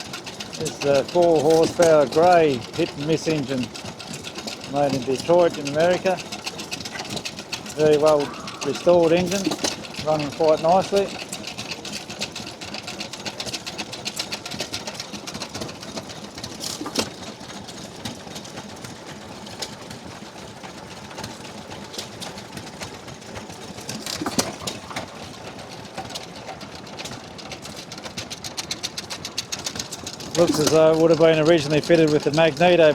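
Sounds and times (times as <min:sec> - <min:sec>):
hit-and-miss engine clattering: 0:00.0 - 0:32.9.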